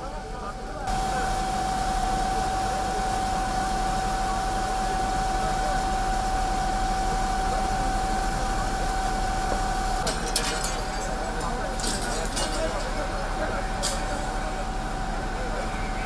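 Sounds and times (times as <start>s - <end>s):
constant hum: 0.0s - 16.0s
fire engine running: 0.0s - 16.0s.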